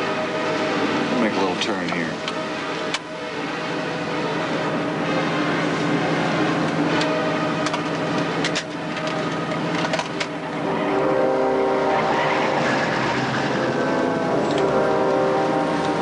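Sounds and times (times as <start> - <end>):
car driving: 0.0 - 16.0
tense music chords: 0.0 - 16.0.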